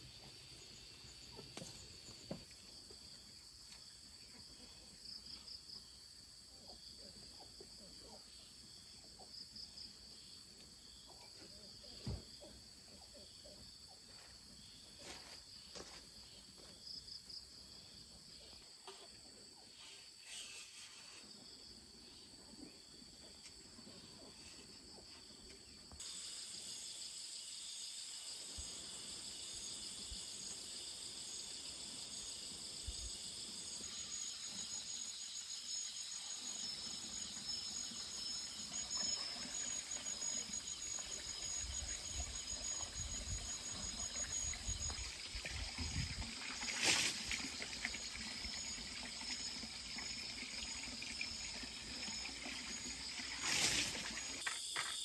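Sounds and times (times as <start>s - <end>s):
insects trilling: 0.0s - 6.1s, 13.0s - 55.0s.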